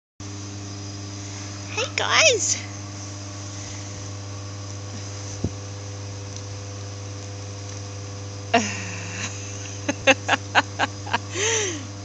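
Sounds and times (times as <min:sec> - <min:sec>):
low hum with hiss: 0:00.2 - 0:12.0.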